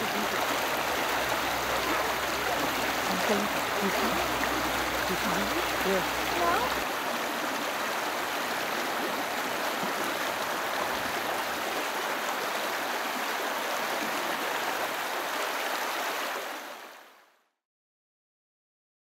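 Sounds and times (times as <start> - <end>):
stream water running: 0.0 - 17.4.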